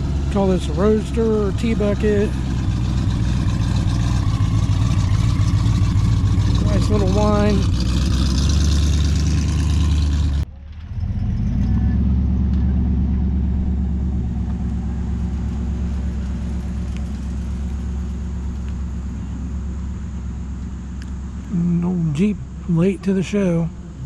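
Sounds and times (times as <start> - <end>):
car engine driving past: 0.0 - 22.7.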